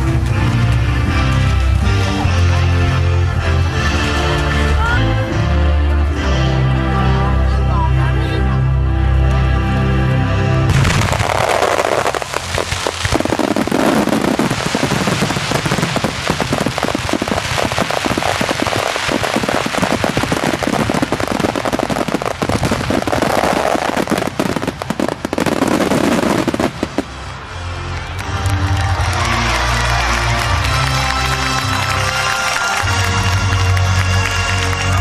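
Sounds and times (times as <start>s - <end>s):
fireworks crackling and banging: 0.0s - 4.9s, 10.6s - 35.0s.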